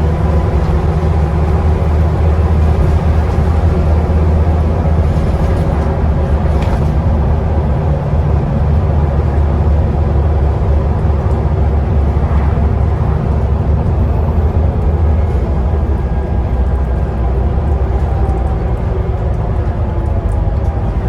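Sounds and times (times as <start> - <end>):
bus engine drone: 0.0 - 21.0
road and cabin noise: 0.0 - 21.0.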